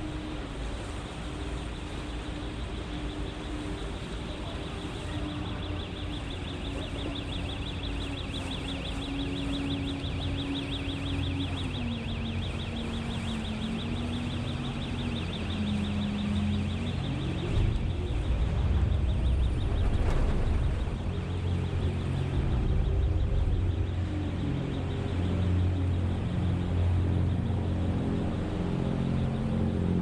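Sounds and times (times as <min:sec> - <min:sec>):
boat engine running: 0:00.0 - 0:30.0
fast high-pitched pulsing: 0:01.1 - 0:29.5.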